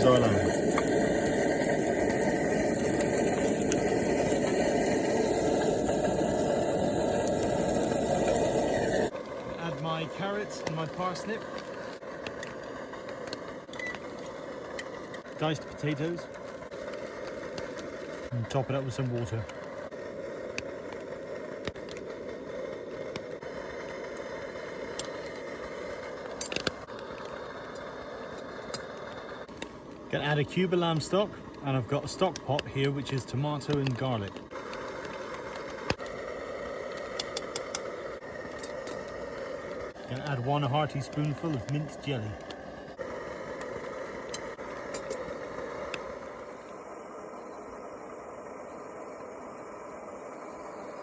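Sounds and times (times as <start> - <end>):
camp stove burner noise: 0.0 - 51.0
meat frying in a pot: 0.0 - 51.0.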